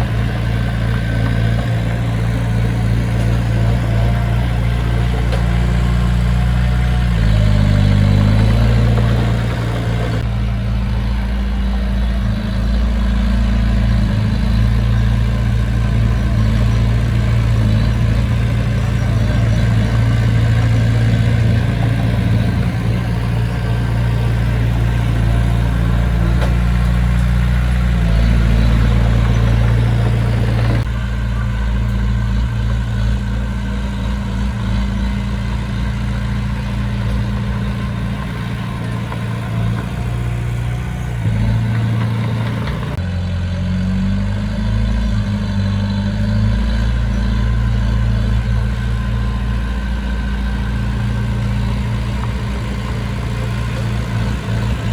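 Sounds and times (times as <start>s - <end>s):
diesel engine idling: 0.0s - 43.3s, 45.7s - 54.9s.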